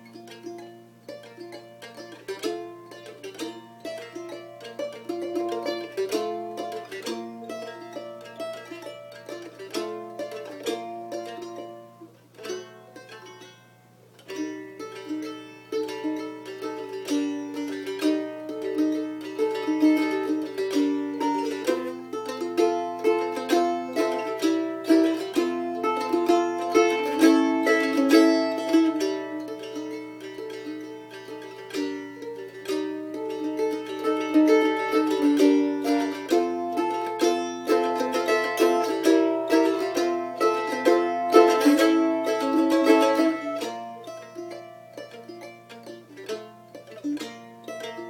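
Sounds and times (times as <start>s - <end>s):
mandolin melody: 0.0s - 48.0s.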